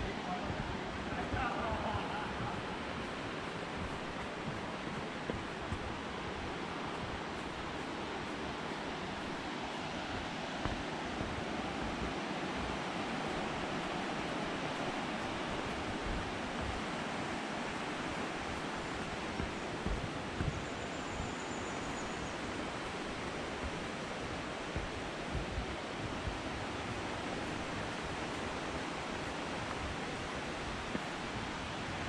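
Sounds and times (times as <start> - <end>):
flowing water rushing: 0.0 - 32.0
soft low thumps: 0.0 - 32.0.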